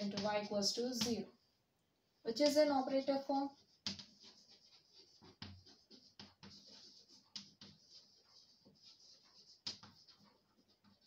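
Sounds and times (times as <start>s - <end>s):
chalk scratching on blackboard: 0.0s - 1.4s, 2.4s - 11.0s.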